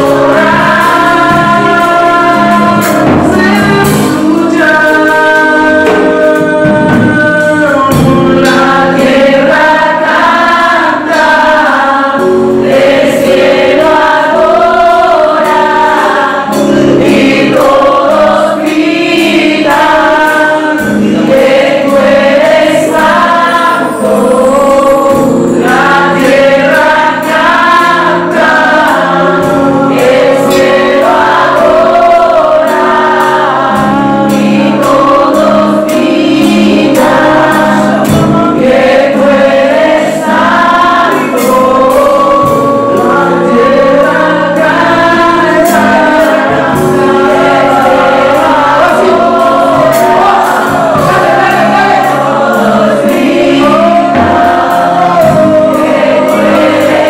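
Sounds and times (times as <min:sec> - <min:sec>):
backing voices singing: 0:00.0 - 0:57.0
drum kit beat with cymbals: 0:00.0 - 0:57.0
keyboard low chords: 0:00.0 - 0:57.0
man singing lead: 0:00.0 - 0:57.0.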